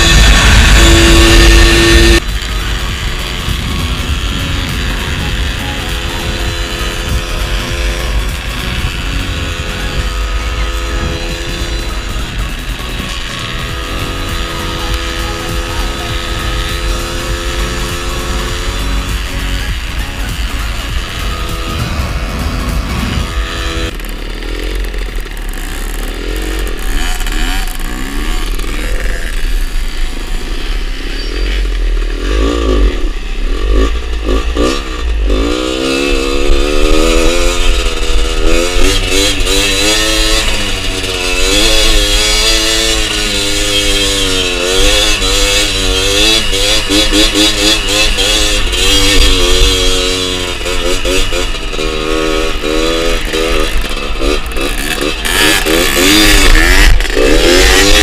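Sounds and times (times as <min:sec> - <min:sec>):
steady rushing noise: 0:00.0 - 0:58.0
two-stroke motorcycle engines revving: 0:00.0 - 0:58.0.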